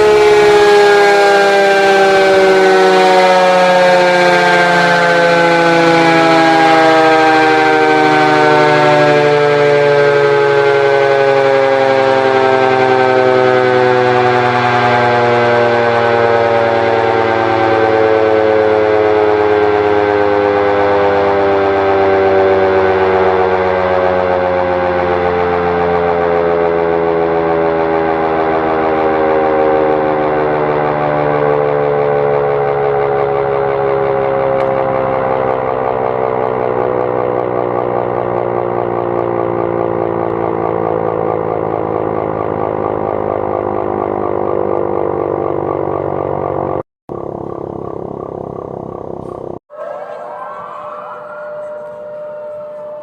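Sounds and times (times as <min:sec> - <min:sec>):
emergency siren winding down: 0:00.0 - 0:53.0.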